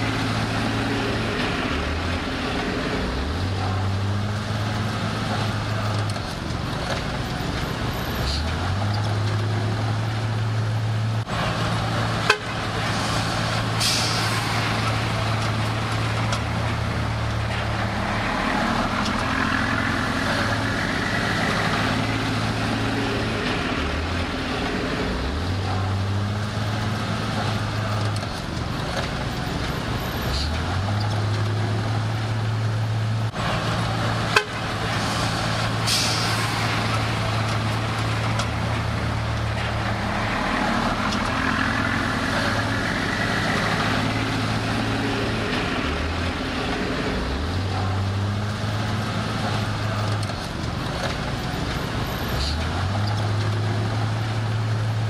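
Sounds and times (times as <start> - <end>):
diesel machinery engine hum: 0.0 - 55.0.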